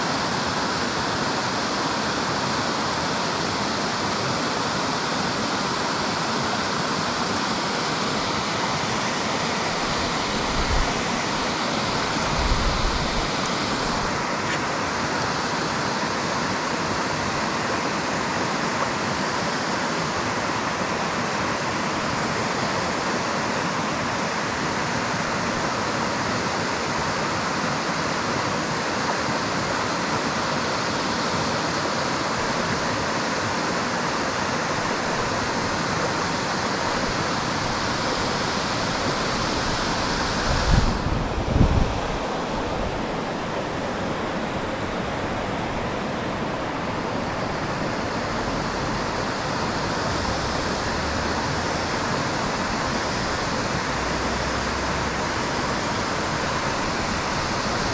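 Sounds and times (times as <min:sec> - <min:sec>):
flowing river water: 0:00.0 - 0:57.9.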